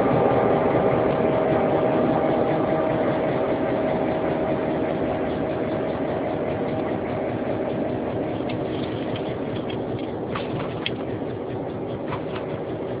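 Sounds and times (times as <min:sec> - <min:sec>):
diesel locomotive engine running: 0:00.0 - 0:13.0
steady whine: 0:00.0 - 0:13.0.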